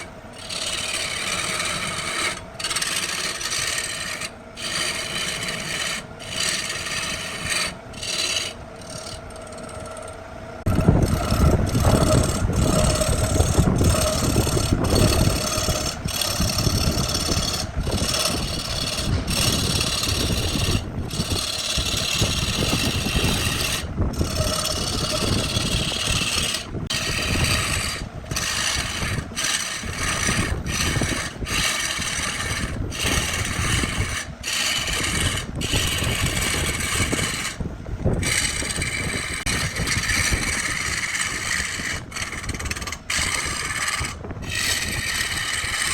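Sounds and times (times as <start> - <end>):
tool rasping and scraping wood: 0.0 - 45.9
wood lathe spinning: 0.0 - 45.9.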